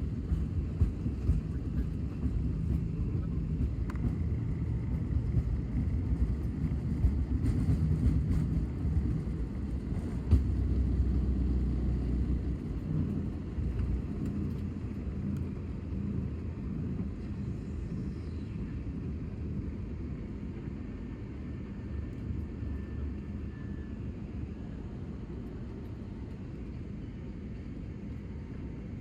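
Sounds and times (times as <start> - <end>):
aeroplane cabin rumble: 0.0 - 29.0.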